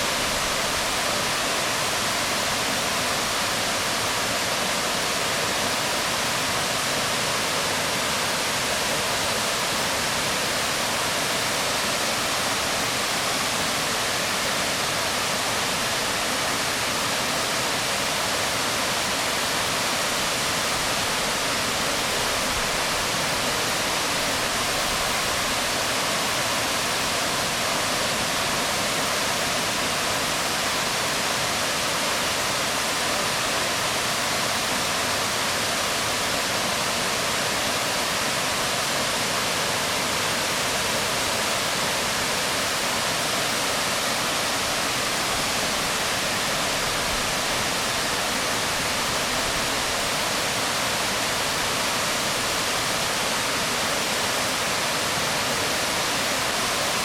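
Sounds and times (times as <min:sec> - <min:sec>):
waterfall rushing onto rocks: 0:00.0 - 0:57.0.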